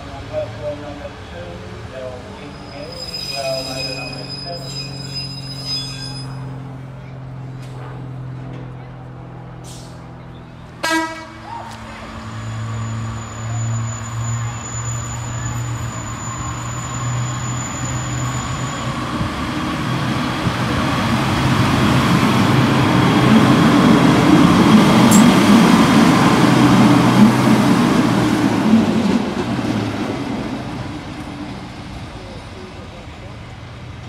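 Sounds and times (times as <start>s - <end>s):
railmotor engine passing: 0.0s - 34.0s.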